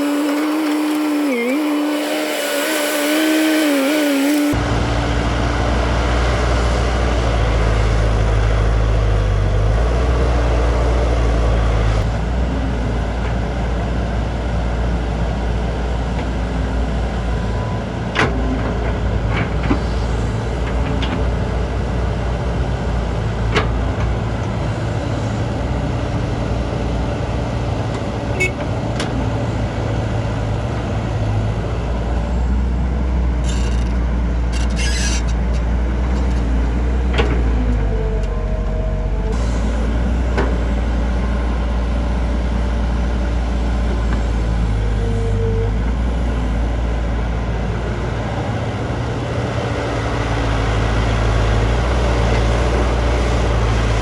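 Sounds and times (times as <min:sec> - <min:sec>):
excavator diesel engine whining: 0:00.0 - 0:54.0.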